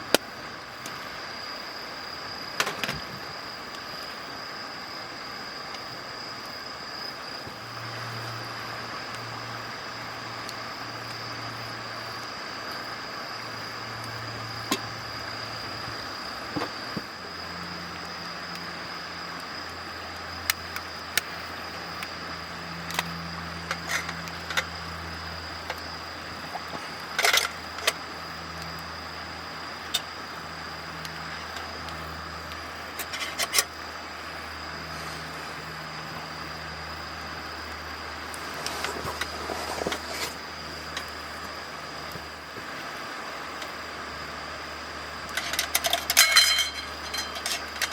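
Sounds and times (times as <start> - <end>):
campfire crackling and popping: 0.0 - 1.3, 2.5 - 34.6, 37.1 - 47.9
background hiss: 0.0 - 47.9
low hum: 0.0 - 47.9.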